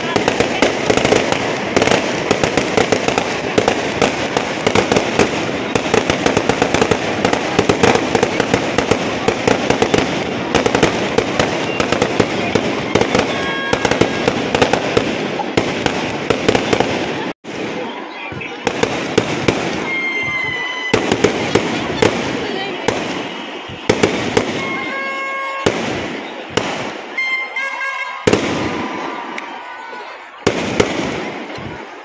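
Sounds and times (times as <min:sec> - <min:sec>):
fireworks crackling and banging: 0:00.0 - 0:32.0.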